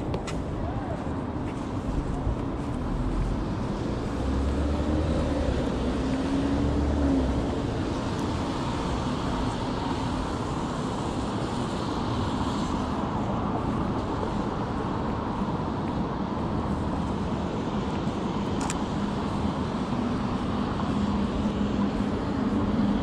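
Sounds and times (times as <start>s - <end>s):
passing vehicle engine hum: 0.0s - 23.0s
traffic noise: 0.0s - 23.0s.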